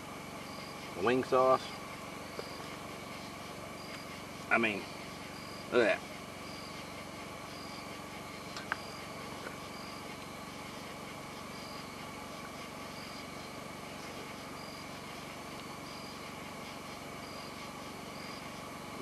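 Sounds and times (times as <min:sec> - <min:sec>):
night insects chirping: 0:00.0 - 0:19.0
steady background hiss: 0:00.0 - 0:19.0.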